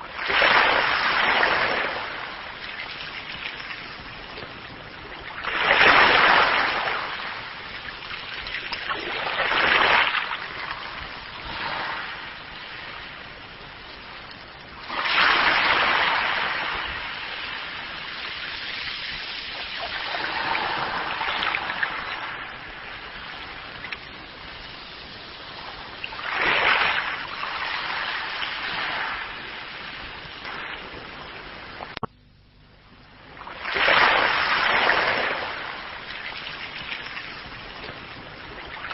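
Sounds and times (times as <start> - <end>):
sea waves breaking: 0.0 - 32.1, 33.2 - 38.9.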